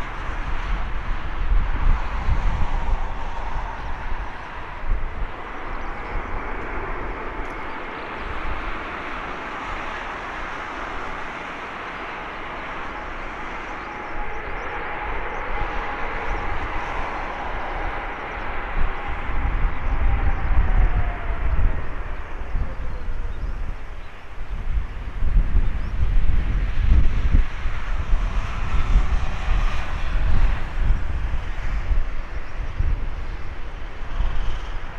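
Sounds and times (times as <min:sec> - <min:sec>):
jet engine rush and whine: 0:00.0 - 0:34.9
wind buffeting microphone: 0:00.0 - 0:34.9.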